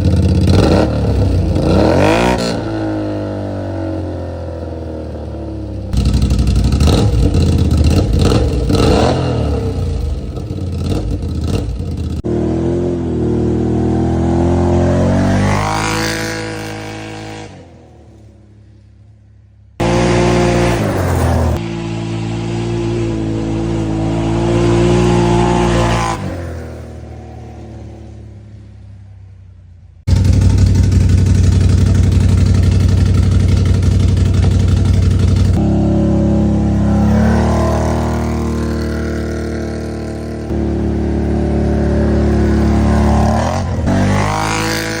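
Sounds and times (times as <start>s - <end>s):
quad bike driving past: 0.0s - 19.0s, 19.8s - 45.0s
quad bike engine idling and revving: 0.0s - 19.0s, 19.8s - 45.0s.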